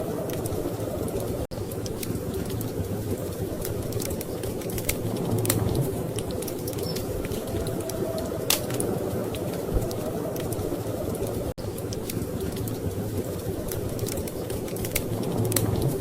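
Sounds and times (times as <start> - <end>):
storm wind rumbling: 0.0 - 16.0
wood fire crackling: 0.0 - 16.0.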